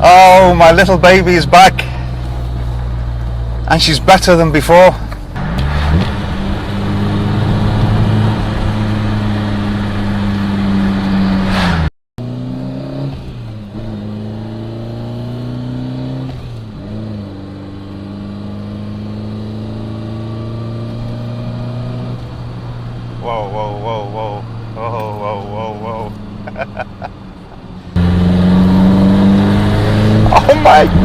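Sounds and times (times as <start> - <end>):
car engine revving: 1.1 - 31.0.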